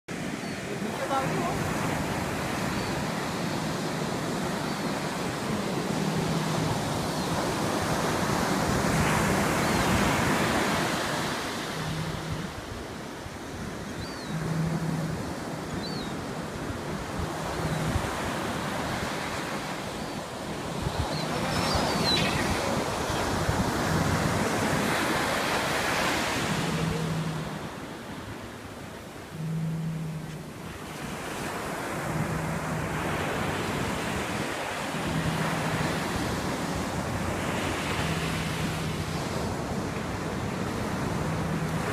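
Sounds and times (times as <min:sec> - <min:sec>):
ocean surf breaking: 0:00.1 - 0:41.9
wind buffeting microphone: 0:00.1 - 0:41.9.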